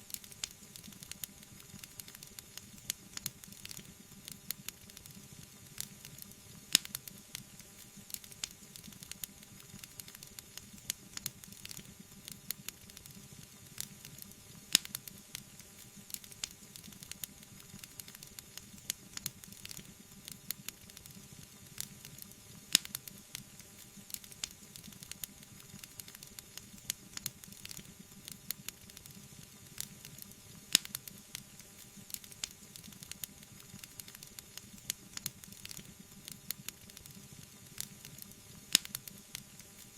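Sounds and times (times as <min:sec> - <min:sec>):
wood fire crackling and hissing: 0:00.0 - 0:39.9.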